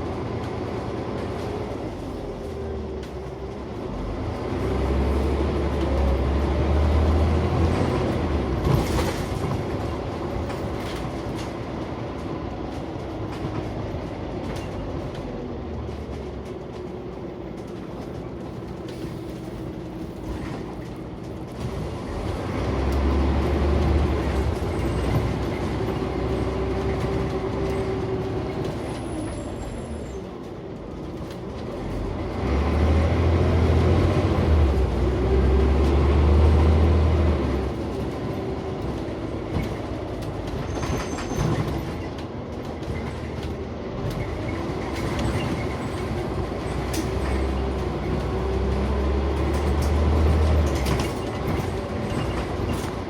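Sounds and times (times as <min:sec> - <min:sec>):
bus engine drone: 0:00.0 - 0:53.0
road and body noise: 0:00.0 - 0:53.0.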